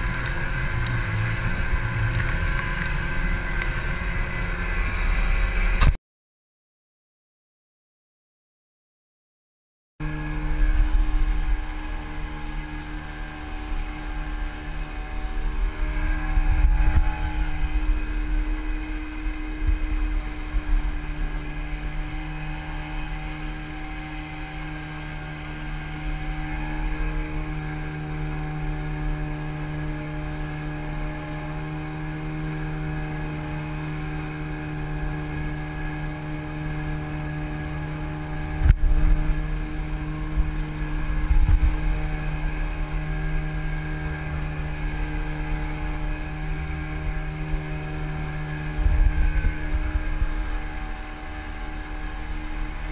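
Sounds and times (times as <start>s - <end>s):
outboard motor droning: 0.0s - 6.0s, 10.0s - 52.9s.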